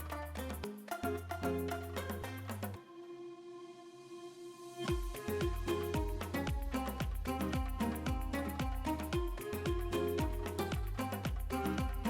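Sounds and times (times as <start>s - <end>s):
instrumental background music: 0.0s - 3.7s, 4.7s - 12.0s.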